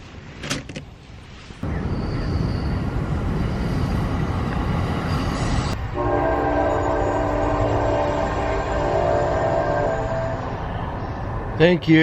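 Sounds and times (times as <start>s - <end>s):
train rumbling past: 1.6s - 12.0s.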